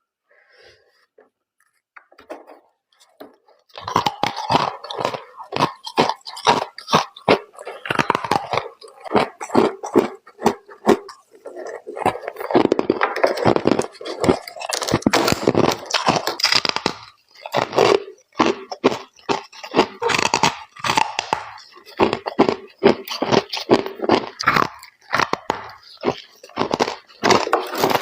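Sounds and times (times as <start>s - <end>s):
crunching ice: 3.7s - 28.0s.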